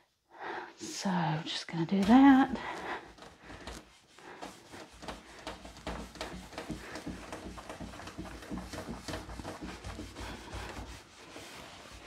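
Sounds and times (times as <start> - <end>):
cloth rubbing wax on wood: 1.7 - 12.0.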